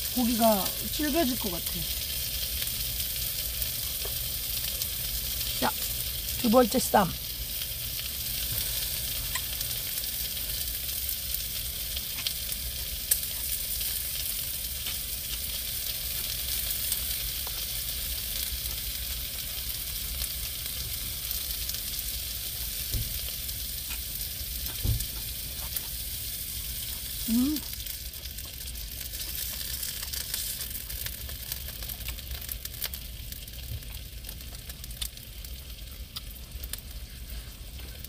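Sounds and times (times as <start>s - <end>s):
meat sizzling: 0.0s - 38.0s.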